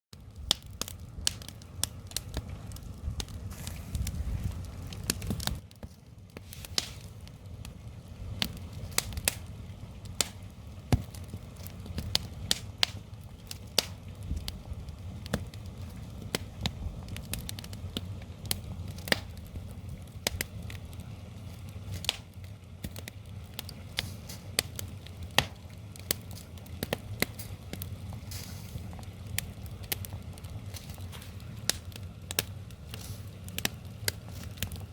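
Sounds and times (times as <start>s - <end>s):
fire low rumble: 0.1s - 34.9s
wood fire crackling and popping: 0.1s - 34.9s.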